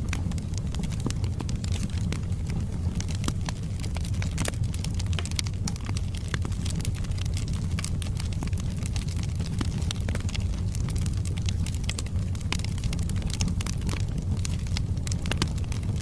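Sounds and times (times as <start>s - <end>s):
fire rumbling: 0.0s - 16.0s
logs crackling and popping: 0.0s - 16.0s.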